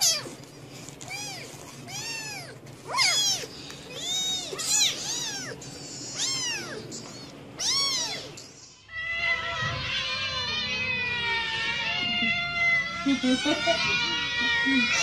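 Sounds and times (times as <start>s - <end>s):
cat crying: 0.0s - 0.4s, 1.0s - 15.0s
kittens mewing: 0.0s - 15.0s.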